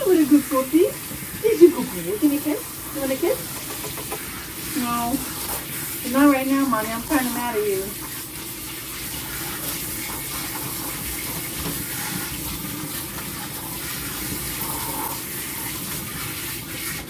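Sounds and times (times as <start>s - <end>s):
shower sprayer running: 0.0s - 17.0s
water splashing into tub: 0.0s - 17.0s.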